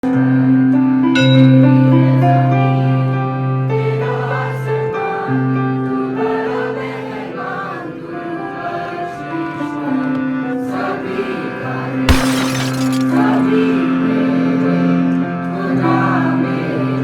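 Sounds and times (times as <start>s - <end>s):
choir singing a prayer: 1.9s - 12.1s, 13.1s - 17.0s.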